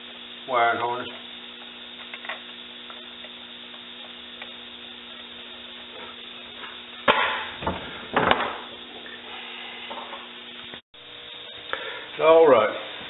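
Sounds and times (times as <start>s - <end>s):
steady workshop hum: 0.0s - 13.0s.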